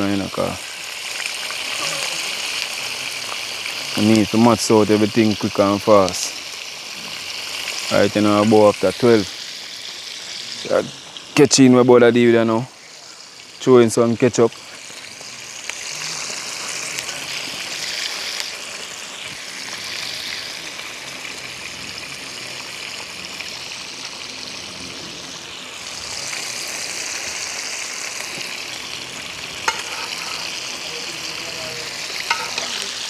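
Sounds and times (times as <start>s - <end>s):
chicken deep-frying sizzle: 0.0s - 33.0s.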